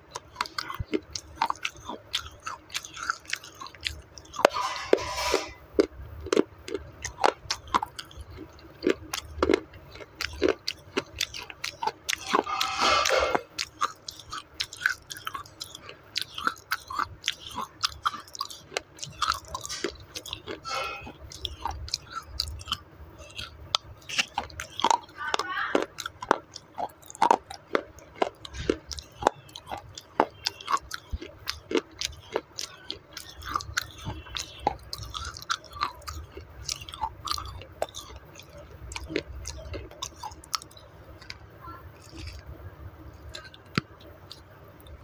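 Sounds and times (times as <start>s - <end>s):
crunching and chewing clay: 0.0s - 45.0s
loud biting crunches: 0.1s - 41.4s.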